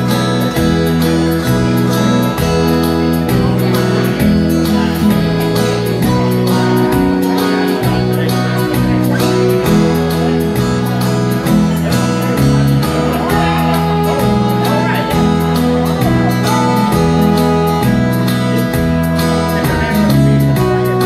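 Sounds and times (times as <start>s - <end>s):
acoustic guitars strumming: 0.0s - 21.0s
bass line: 0.0s - 21.0s.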